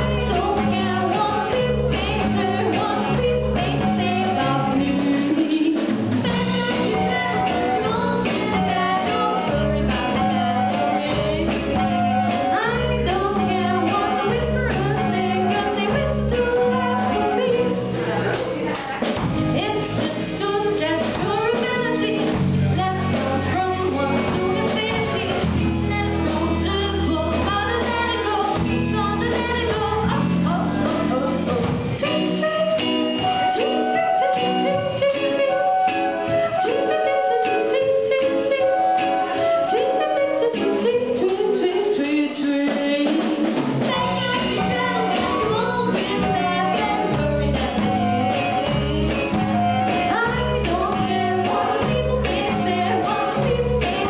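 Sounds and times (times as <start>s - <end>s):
girls singing: 0.0s - 31.6s, 33.4s - 54.0s
live band playing: 0.0s - 54.0s.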